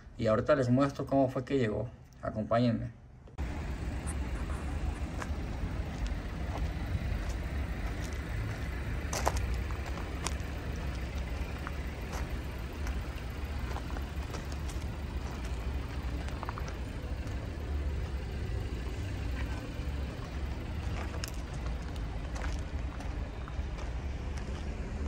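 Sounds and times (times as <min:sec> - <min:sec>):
low rumble: 0:03.4 - 0:25.0.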